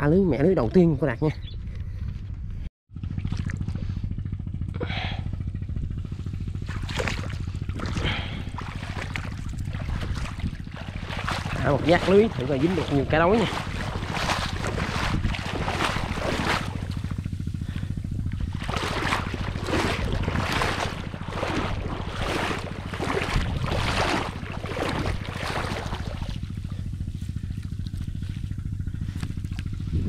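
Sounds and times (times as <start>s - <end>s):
steady low rumble: 0.0s - 30.0s
water sloshing and splashing: 3.1s - 3.8s, 6.4s - 30.0s.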